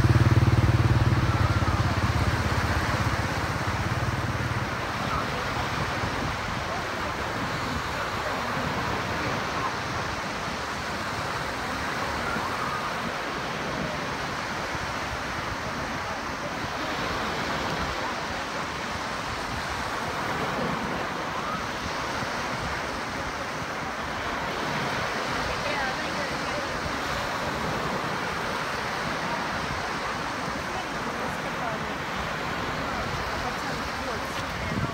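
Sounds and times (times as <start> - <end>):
surf: 0.0 - 34.9
wind: 0.0 - 34.9.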